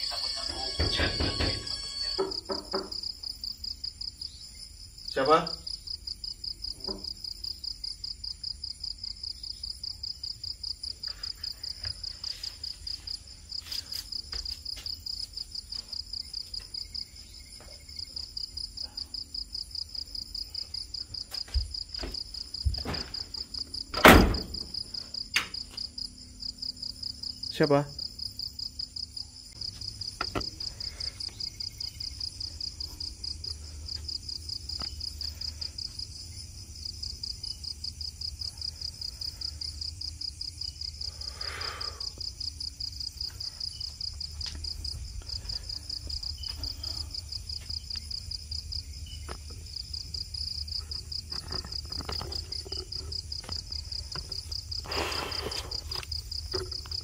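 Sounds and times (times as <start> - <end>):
night insects chirping: 0.0 - 57.0.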